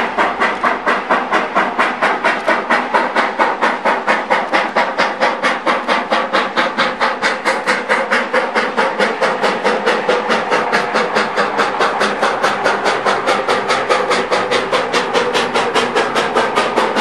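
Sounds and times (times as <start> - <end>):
steam locomotive exhaust chuffing: 0.0 - 17.0.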